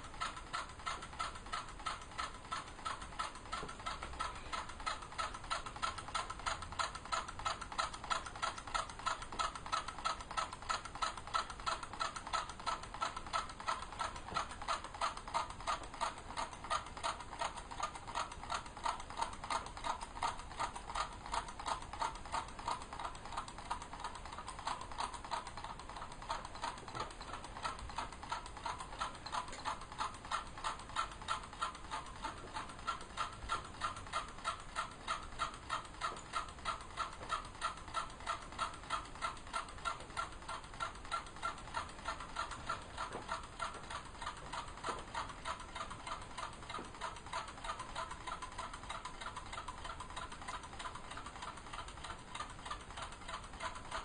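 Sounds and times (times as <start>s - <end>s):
small engine clicking rhythmically: 0.0s - 54.0s.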